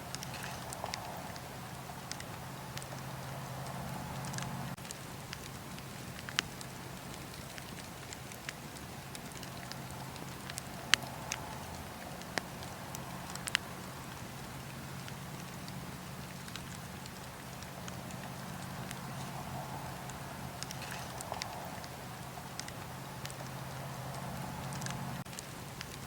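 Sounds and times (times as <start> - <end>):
low rumble of burning: 0.0 - 26.0
wood fire crackling and popping: 0.0 - 26.0.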